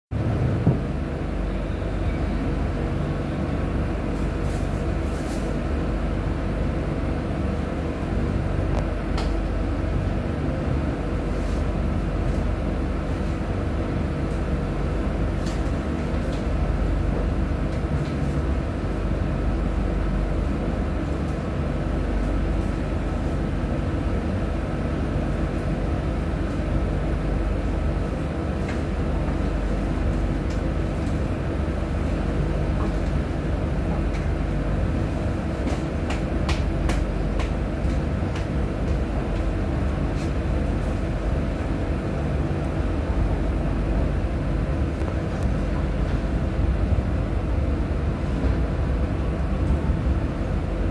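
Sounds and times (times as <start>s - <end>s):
train car rumbling along track: 0.1s - 50.9s.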